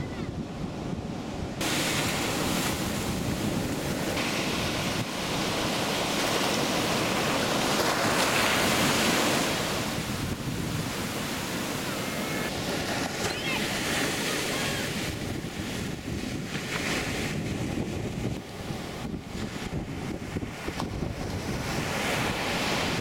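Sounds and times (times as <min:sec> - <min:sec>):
ocean surf breaking: 0:00.0 - 0:23.0
wind on microphone: 0:00.0 - 0:23.0.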